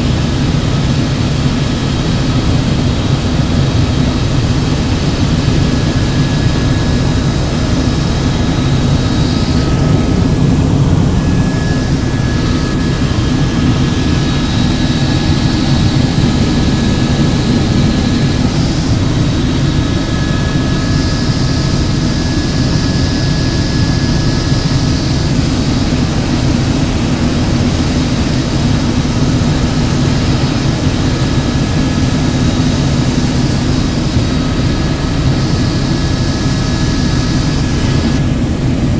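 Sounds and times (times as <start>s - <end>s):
thin high whine: 0.0s - 38.4s
helicopter rotor and turbine noise: 0.0s - 38.9s.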